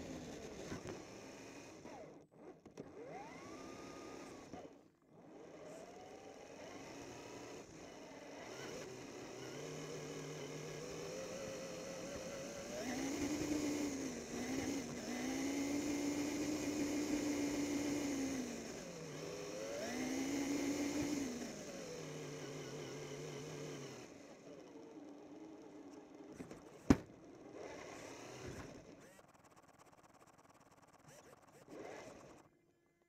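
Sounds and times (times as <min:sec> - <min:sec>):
toy truck motor whining: 0:00.0 - 0:32.7.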